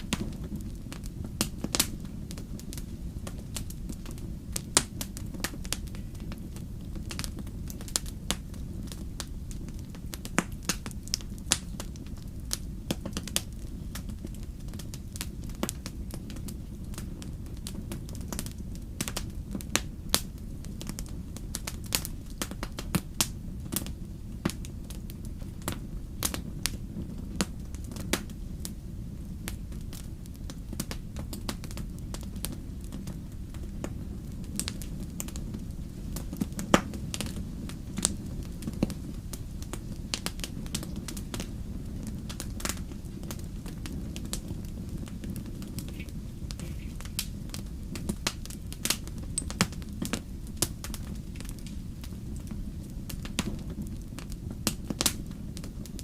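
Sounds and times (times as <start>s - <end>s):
low rumble of burning fire: 0.0s - 56.0s
wood fire crackling: 0.0s - 56.0s.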